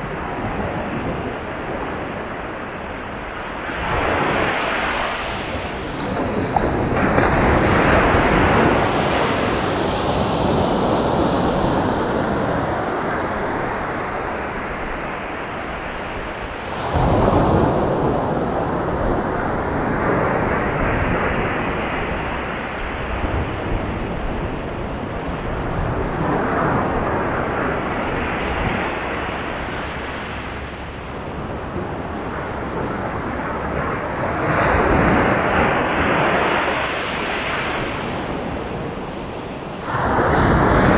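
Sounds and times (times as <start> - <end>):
sea waves breaking on shore: 0.0 - 40.9.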